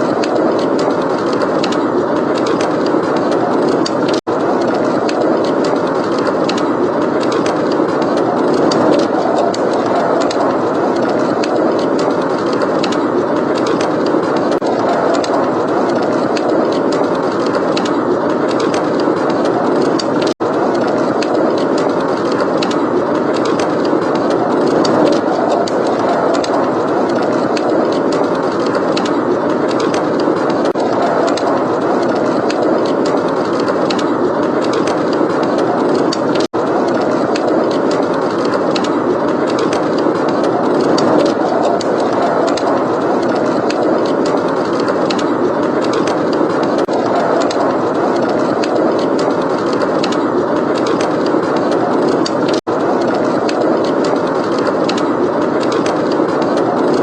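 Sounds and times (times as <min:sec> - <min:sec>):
heavy wind rushing: 0:00.0 - 0:57.0
wood fire crackling: 0:00.0 - 0:57.0.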